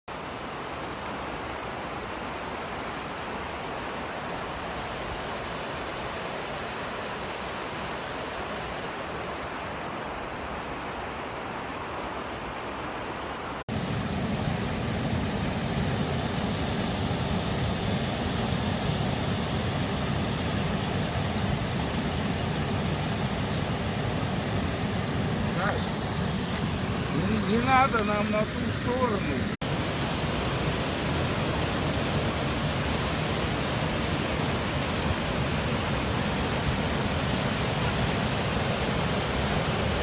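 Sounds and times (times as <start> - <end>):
waterfall rushing: 0.1 - 40.0.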